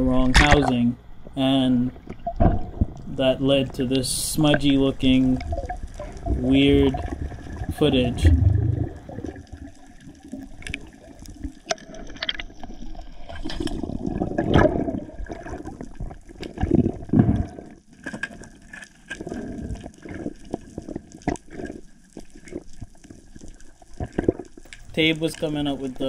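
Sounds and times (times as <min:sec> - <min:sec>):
seawater sloshing and gurgling: 0:04.1 - 0:26.0.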